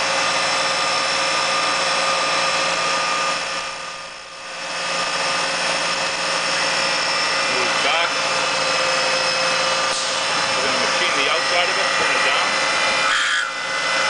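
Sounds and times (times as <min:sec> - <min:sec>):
metal lathe whining: 0:00.0 - 0:14.0.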